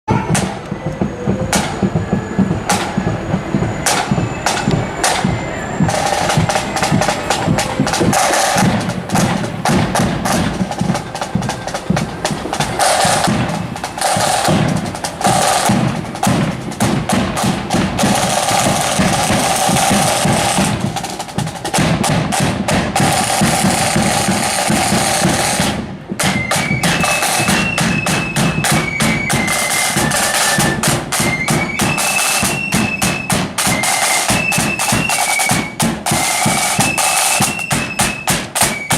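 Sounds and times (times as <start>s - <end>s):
flutes playing a tune: 0.1s - 21.6s, 23.0s - 38.9s
snare and bass drums marching: 0.1s - 38.9s.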